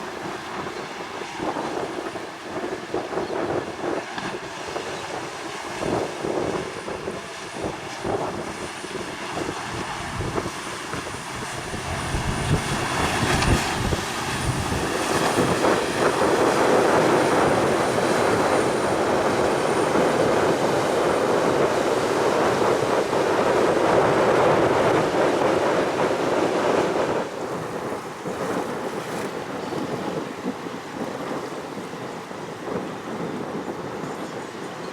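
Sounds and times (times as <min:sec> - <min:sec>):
continuous rushing noise: 0:00.0 - 0:34.9
gusty wind buffeting microphone: 0:00.0 - 0:34.9.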